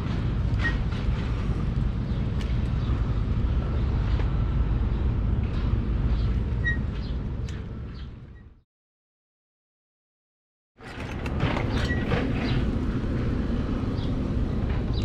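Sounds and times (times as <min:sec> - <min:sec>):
road noise: 0:00.0 - 0:08.6, 0:10.8 - 0:15.0.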